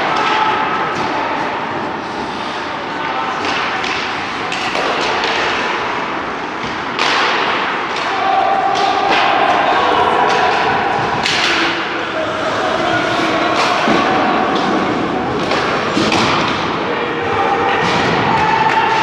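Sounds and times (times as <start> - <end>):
puck and sticks hitting boards: 0.0 - 19.0.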